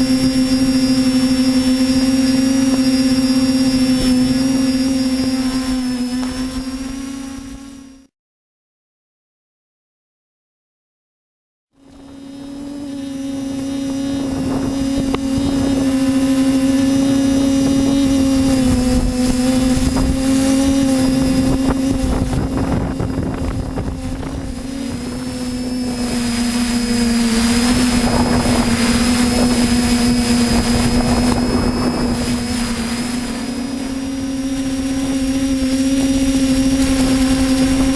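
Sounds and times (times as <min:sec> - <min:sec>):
engine humming steadily: 0:00.0 - 0:08.1, 0:11.8 - 0:37.9.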